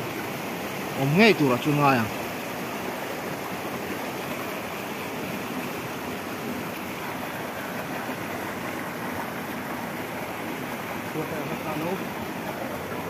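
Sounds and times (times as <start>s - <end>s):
mountain stream rushing: 0.0s - 13.0s
small waterfall: 0.0s - 13.0s.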